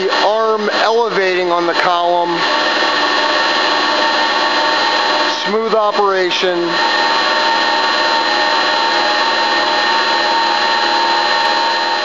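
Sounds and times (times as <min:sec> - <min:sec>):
drill press motor whining: 0:00.0 - 0:12.0.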